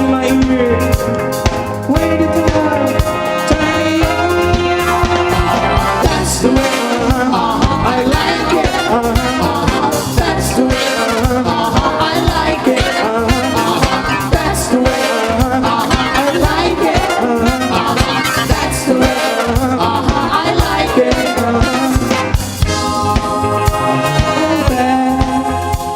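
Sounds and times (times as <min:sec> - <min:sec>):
upbeat pop music with brass: 0:00.0 - 0:25.9.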